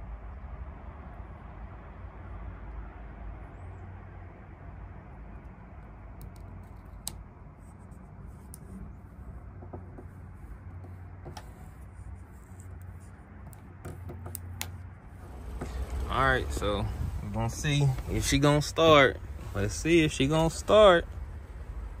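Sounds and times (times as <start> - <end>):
steady low rumble: 0.0 - 13.8, 14.4 - 22.0.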